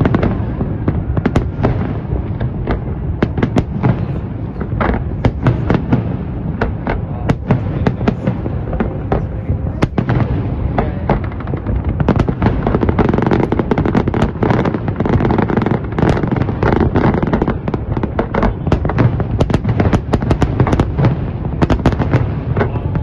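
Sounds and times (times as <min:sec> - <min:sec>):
fireworks booming: 0:00.0 - 0:23.0
fireworks cracks and bangs: 0:00.0 - 0:23.0.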